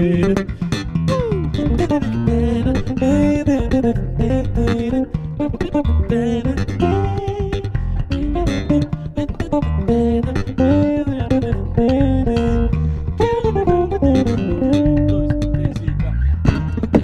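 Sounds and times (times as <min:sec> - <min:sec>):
bass guitar high melody: 0:00.0 - 0:17.0
bass guitar low line: 0:00.0 - 0:17.0.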